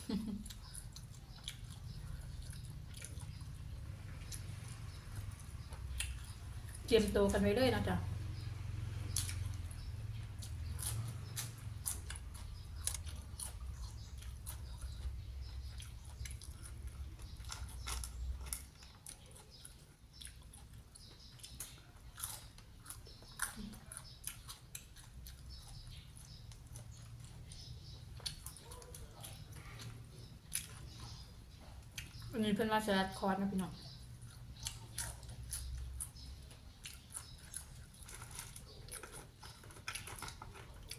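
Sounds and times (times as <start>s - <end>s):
crunchy food chewing: 0.0s - 40.9s.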